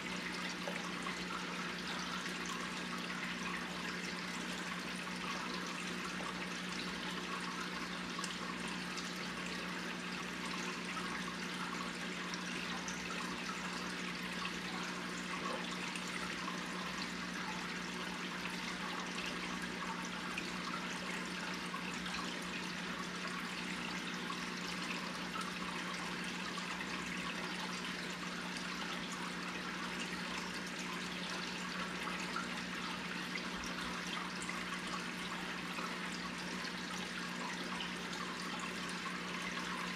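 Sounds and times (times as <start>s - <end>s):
aquarium water bubbling: 0.0s - 39.9s
pump humming: 0.0s - 39.9s.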